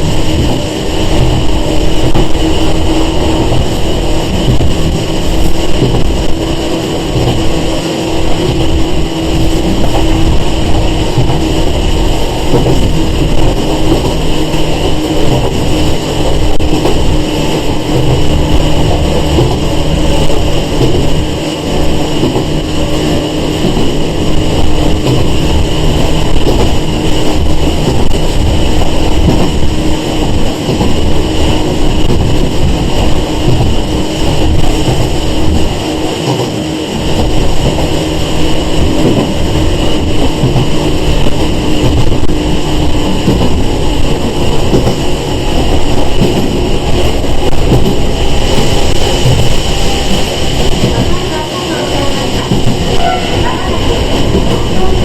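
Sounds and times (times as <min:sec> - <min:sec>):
train motor whine: 0:00.0 - 0:55.0
train wheels rumbling on rails: 0:00.0 - 0:55.0.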